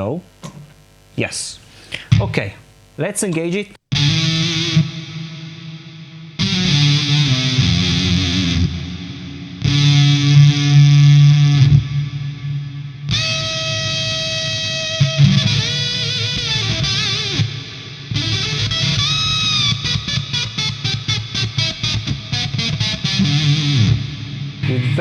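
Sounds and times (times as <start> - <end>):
distorted electric guitar: 0.0 - 25.0.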